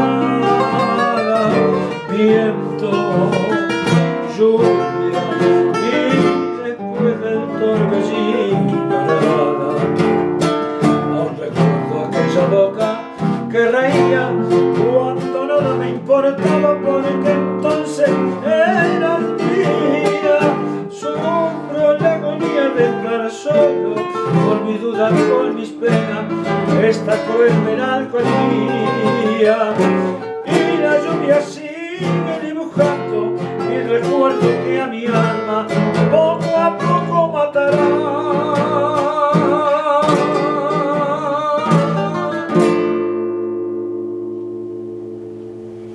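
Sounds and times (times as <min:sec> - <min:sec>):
man singing: 0:00.0 - 0:42.9
classical guitars strummed and plucked: 0:00.0 - 0:45.9.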